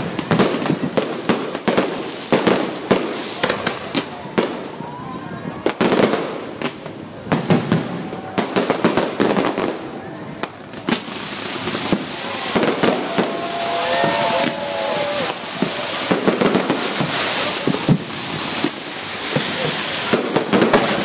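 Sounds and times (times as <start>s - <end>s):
fireworks banging: 0.0s - 21.0s
fireworks crackling hiss: 0.0s - 21.0s.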